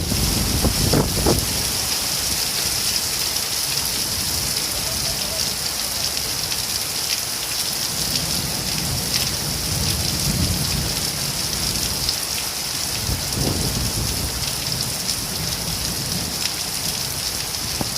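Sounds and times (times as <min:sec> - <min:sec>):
raindrops ticking close by: 0:00.0 - 0:17.9
steady rain falling: 0:00.0 - 0:17.9.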